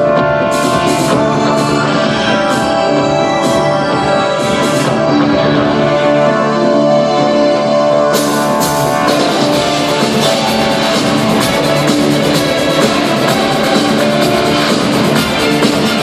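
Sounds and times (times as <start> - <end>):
keyboard chords: 0.0 - 16.0
rock band and orchestra playing: 0.0 - 16.0.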